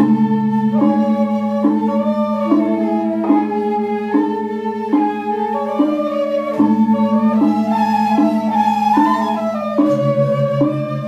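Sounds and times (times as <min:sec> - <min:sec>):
bamboo flutes playing melody: 0:00.0 - 0:11.0
low held flute tone: 0:00.0 - 0:11.0.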